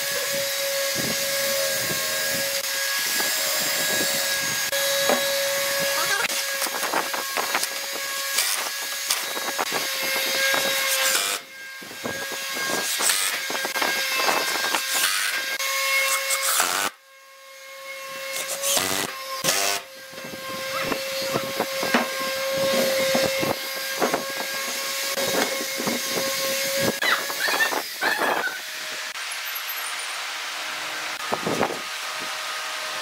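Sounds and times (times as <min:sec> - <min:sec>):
power tool whining: 0:00.0 - 0:33.0.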